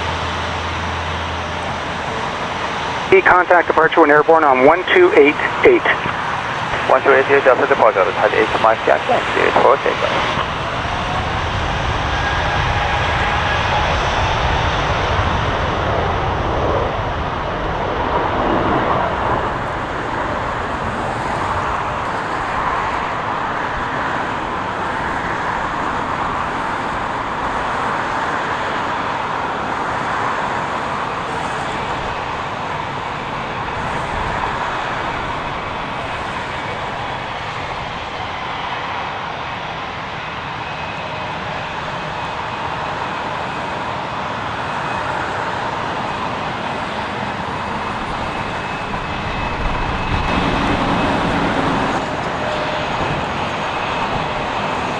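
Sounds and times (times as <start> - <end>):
jet engines roaring at takeoff: 0.0 - 54.9.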